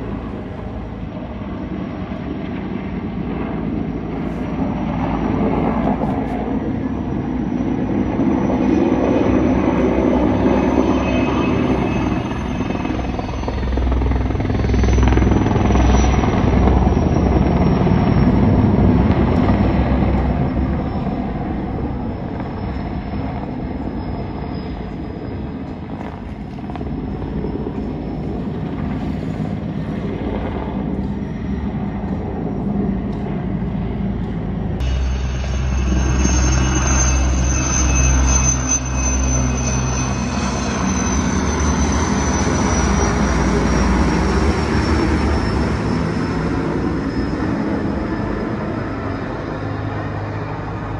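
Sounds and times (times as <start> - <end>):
helicopter rotor noise: 0.0 - 50.9
high turbine whine: 0.0 - 50.9.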